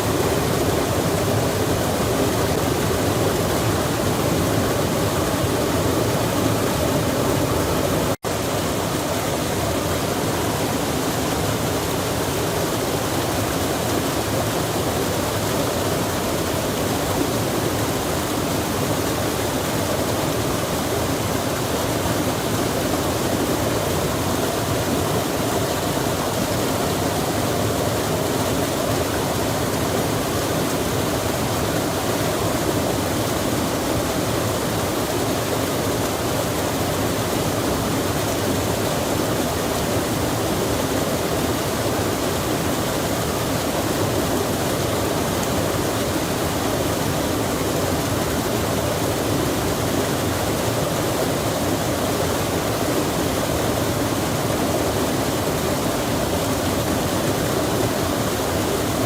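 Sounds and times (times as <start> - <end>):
rain falling: 0.0 - 59.0
stream flowing: 0.0 - 59.0.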